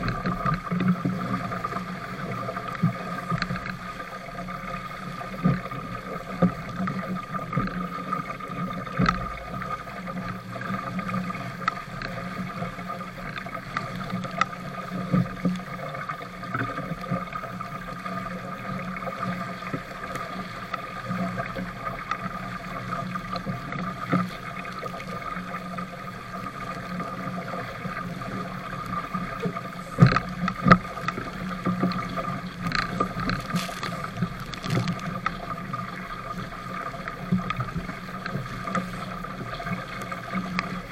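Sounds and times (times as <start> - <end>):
water rushing along hull: 0.0 - 40.9
waves slapping boat: 0.0 - 40.9
wind: 0.0 - 40.9.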